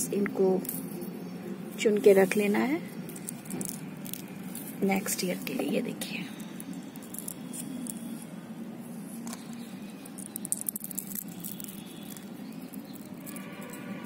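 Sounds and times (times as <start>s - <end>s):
dry seed pods crackling: 0.0s - 14.0s.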